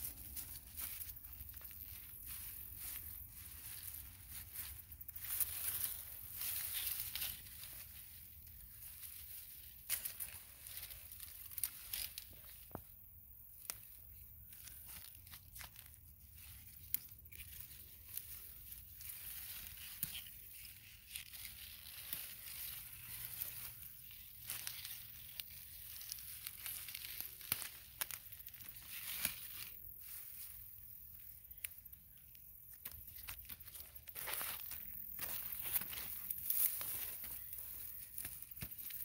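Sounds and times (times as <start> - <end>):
leaves and vines rustling: 0.0 - 39.0.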